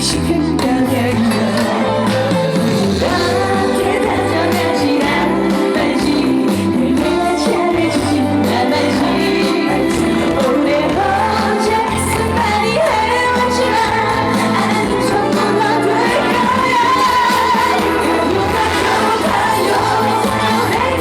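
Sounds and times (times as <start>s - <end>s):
accompaniment track with bass beat: 0.0s - 21.0s
woman singing: 0.0s - 21.0s.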